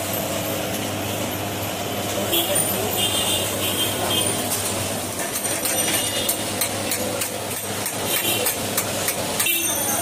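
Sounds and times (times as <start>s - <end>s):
traffic and machinery hum: 0.0s - 10.0s.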